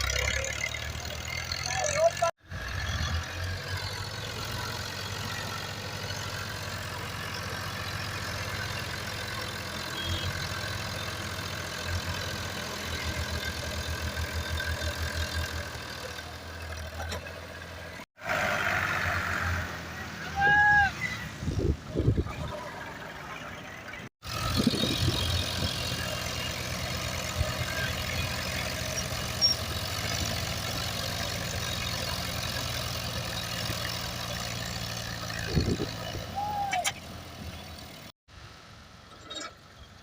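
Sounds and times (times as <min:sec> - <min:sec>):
tractor diesel engine running: 0:00.0 - 0:20.1, 0:21.5 - 0:40.0.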